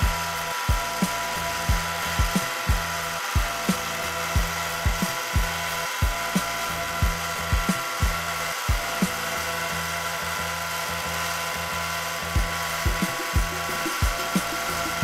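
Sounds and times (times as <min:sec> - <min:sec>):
lathe whine: 0:00.0 - 0:15.0.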